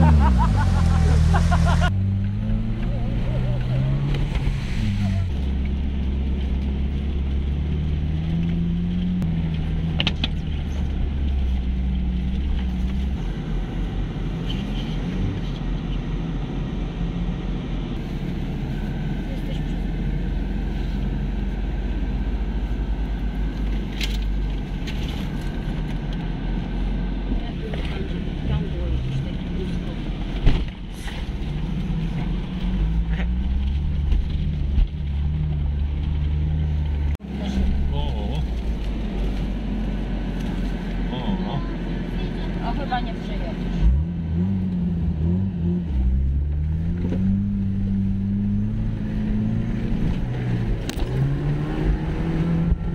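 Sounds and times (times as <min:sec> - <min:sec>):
rough vehicle noise: 0:00.0 - 0:52.9.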